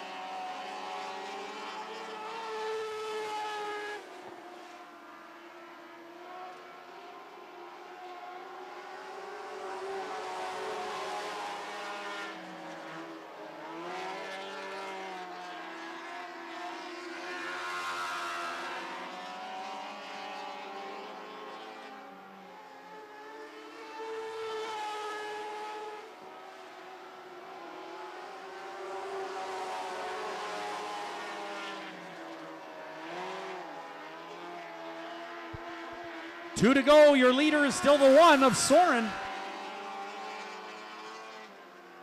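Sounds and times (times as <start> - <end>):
racing car engines: 0.0 - 42.0.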